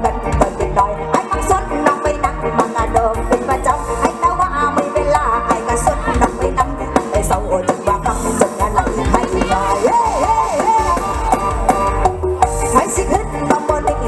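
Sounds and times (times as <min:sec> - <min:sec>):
band music over loudspeakers: 0:00.0 - 0:14.0.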